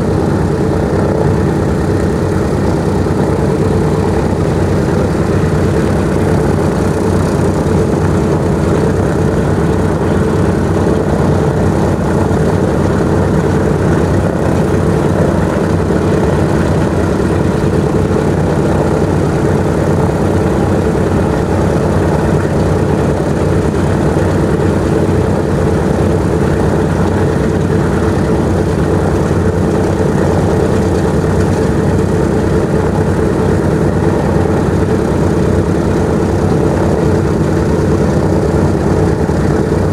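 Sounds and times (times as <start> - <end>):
piston aircraft engines idling: 0.0 - 39.9.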